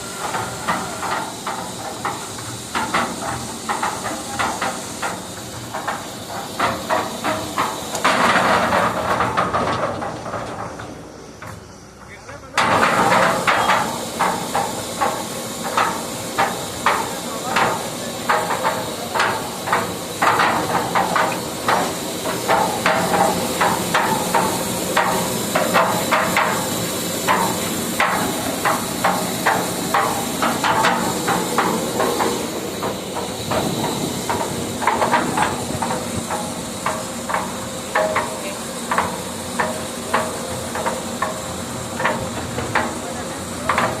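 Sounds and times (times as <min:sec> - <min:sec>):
concrete mixer humming: 0:00.0 - 0:44.0
sharp knocks and clanks: 0:00.0 - 0:44.0.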